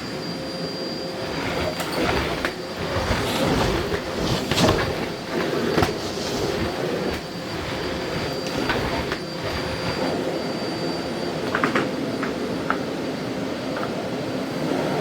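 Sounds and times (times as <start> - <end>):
vacuum cleaner whining: 0.0 - 15.0.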